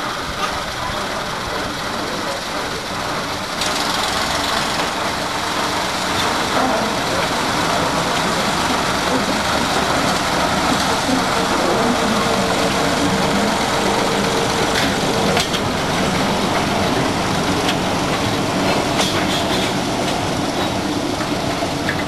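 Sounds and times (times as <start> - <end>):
locomotive engine running: 0.0 - 22.0
wagon wheels clicking on rail joints: 0.0 - 22.0.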